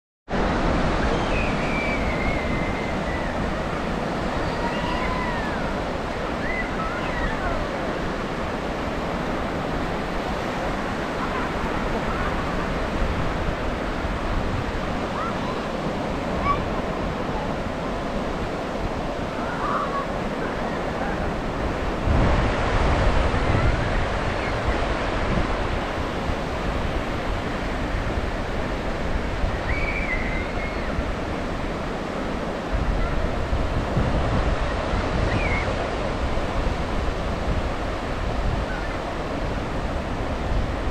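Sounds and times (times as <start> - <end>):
surf breaking on sandy beach: 0.3 - 40.9.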